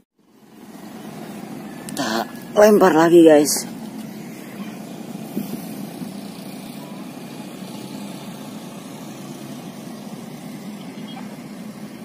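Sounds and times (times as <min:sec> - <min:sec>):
distant truck engine idling: 0:00.2 - 0:12.0.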